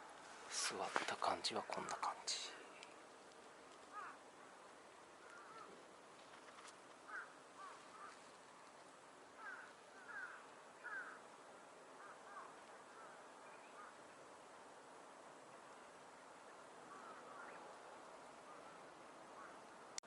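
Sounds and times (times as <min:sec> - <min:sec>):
faint birds calling: 0:00.0 - 0:20.0
steady background hiss: 0:00.0 - 0:20.0.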